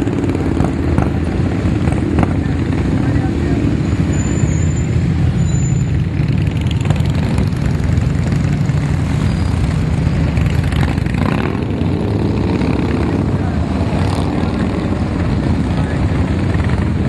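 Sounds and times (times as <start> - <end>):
cars in traffic: 0.0 - 17.0
motorcycles rumbling past: 0.0 - 17.0.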